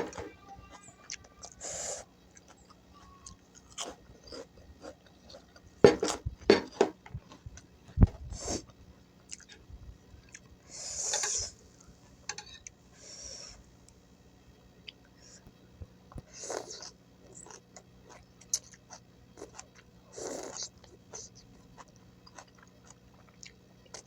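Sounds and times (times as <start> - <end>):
chewing and crunching vegetables: 0.0 - 8.0, 8.6 - 10.7, 14.8 - 24.0.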